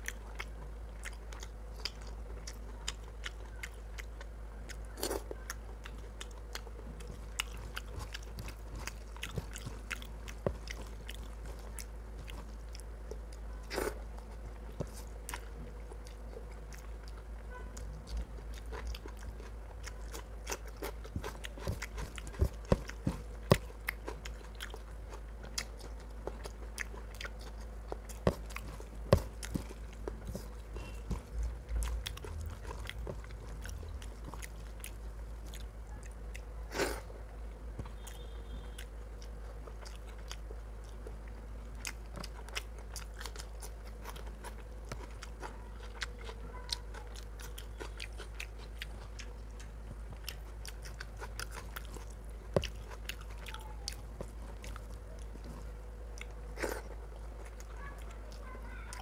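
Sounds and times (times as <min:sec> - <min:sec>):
man chewing food: 0:00.0 - 0:59.0
steady low hum: 0:00.0 - 0:59.0.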